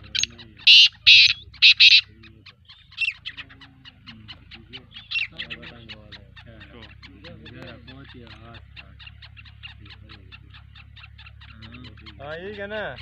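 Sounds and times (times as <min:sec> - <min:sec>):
harsh bird calls: 0:00.0 - 0:13.0.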